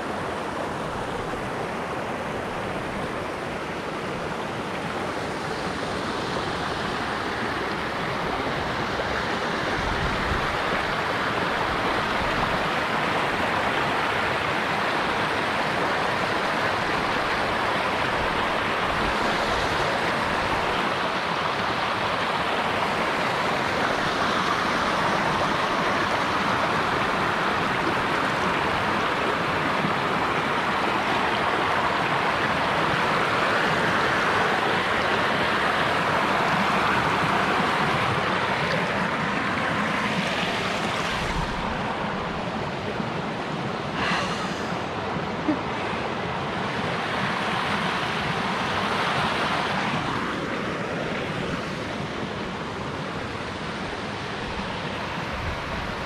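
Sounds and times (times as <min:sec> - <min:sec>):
river rapids over rocks: 0:00.0 - 0:56.0.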